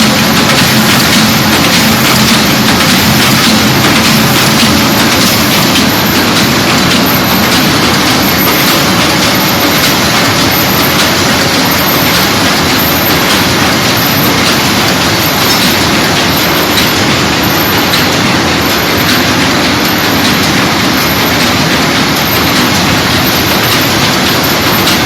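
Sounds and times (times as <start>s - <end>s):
paper bag machine clattering: 0.0s - 25.0s.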